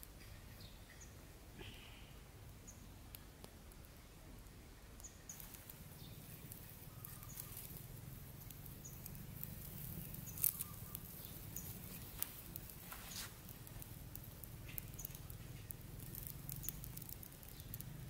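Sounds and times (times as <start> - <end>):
wood fire crackling: 0.0 - 1.6, 2.2 - 18.0
fire pops: 2.4 - 18.0.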